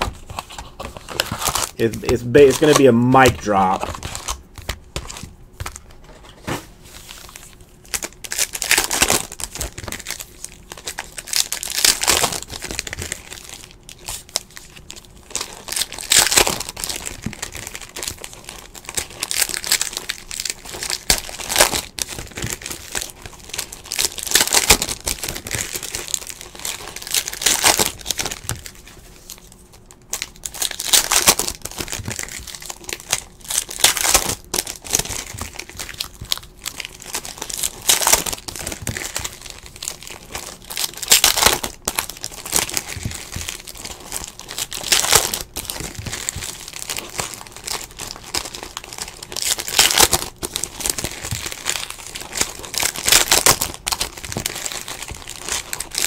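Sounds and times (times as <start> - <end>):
card pack wrappers tearing and crinkling: 0.0 - 5.9, 6.9 - 56.0.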